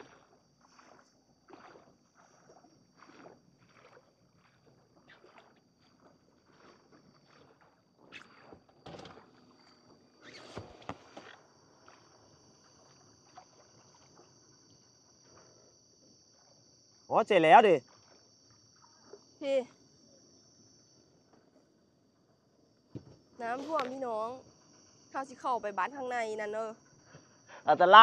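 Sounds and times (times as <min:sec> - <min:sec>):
water sloshing and splashing: 0:00.0 - 0:19.9, 0:23.0 - 0:25.8
insect chirring: 0:00.0 - 0:28.0.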